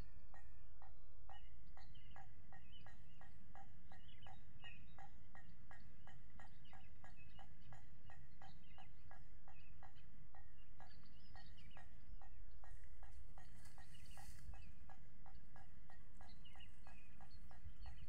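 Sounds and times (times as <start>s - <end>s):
bird chirps: 1.3s - 18.0s.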